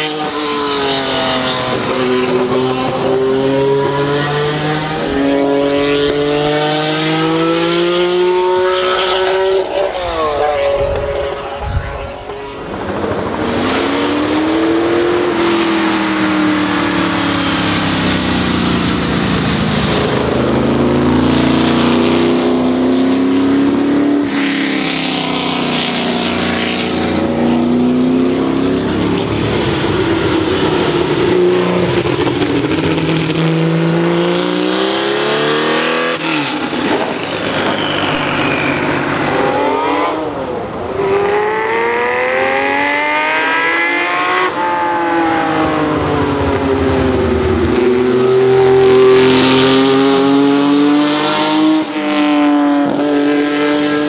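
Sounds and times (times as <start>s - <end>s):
racing car engine accelerating: 0.0s - 54.0s.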